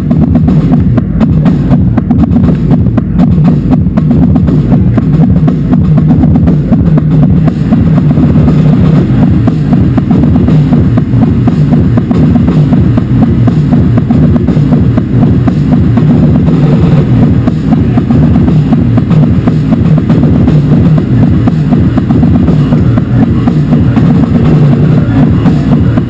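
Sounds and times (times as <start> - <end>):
distorted harsh noise music: 0.0 - 26.0.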